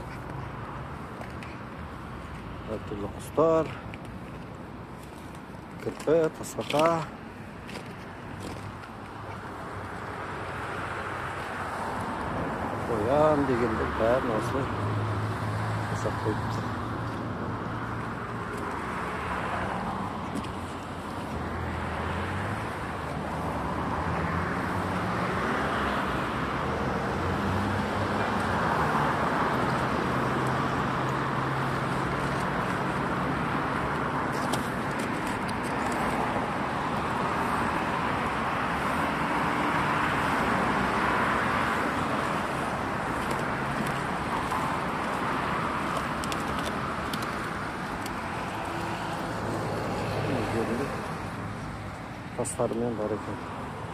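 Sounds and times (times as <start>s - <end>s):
cars passing: 0.0s - 53.9s.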